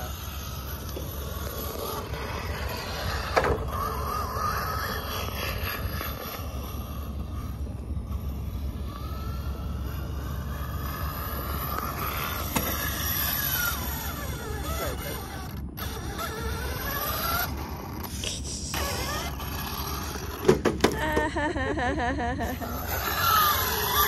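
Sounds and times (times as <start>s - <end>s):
toy truck electric motor whining: 0.0s - 24.0s.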